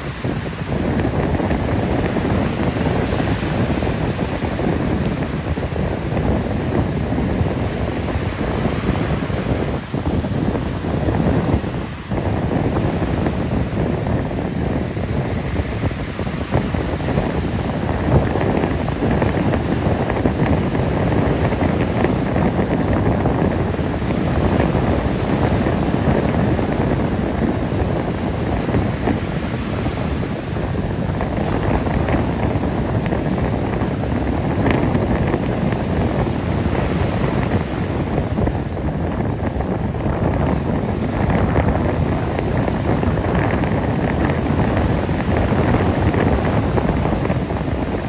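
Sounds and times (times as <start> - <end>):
surf breaking on beach: 0.0 - 48.0
wind buffeting microphone: 0.0 - 48.0.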